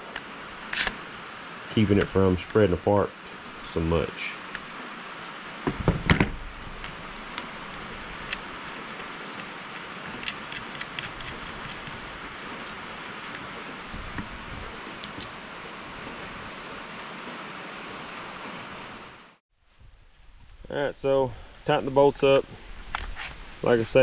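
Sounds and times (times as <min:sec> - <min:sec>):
drizzling rain: 0:00.0 - 0:24.0.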